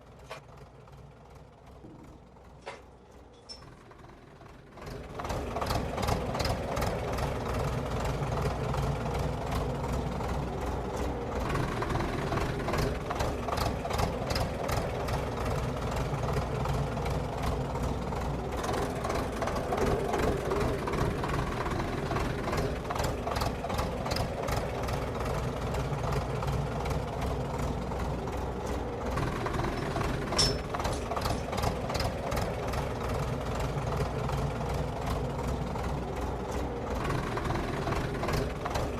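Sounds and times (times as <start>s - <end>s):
engine running with knocking clicks: 0.0s - 38.9s.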